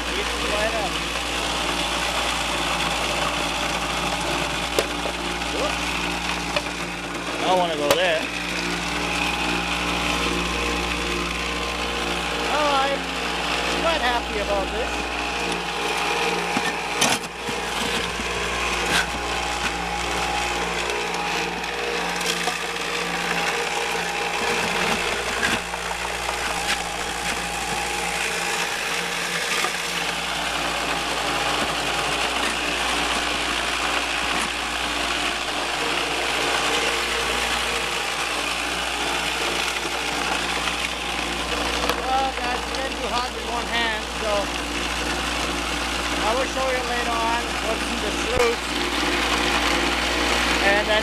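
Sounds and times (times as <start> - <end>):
low hum: 0.0 - 51.0
water spraying: 0.0 - 51.0.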